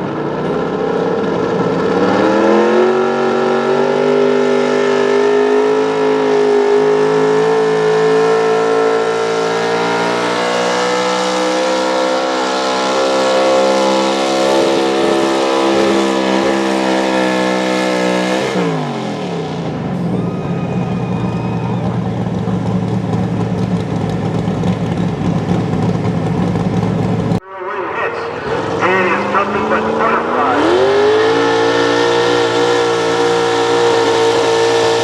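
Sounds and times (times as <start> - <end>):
truck engine at high revs: 0.0 - 35.0.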